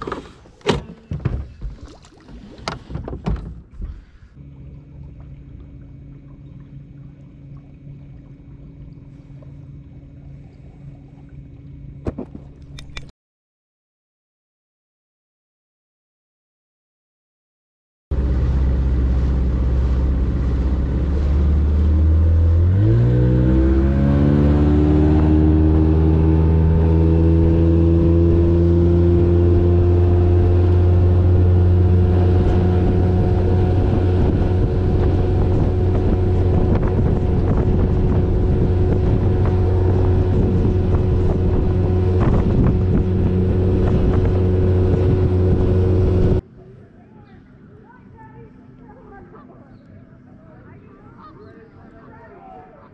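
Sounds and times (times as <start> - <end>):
outboard motor running: 0.0 - 13.1, 18.1 - 52.9.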